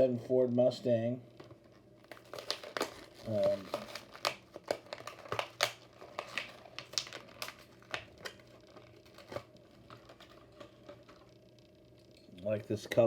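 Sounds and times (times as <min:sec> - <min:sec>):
plastic blister packaging crinkling: 0:01.3 - 0:13.0.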